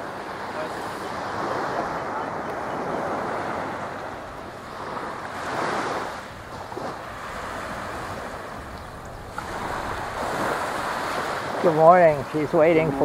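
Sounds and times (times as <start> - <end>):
ocean surf washing ashore: 0.0 - 13.0
wind on microphone: 0.8 - 13.0.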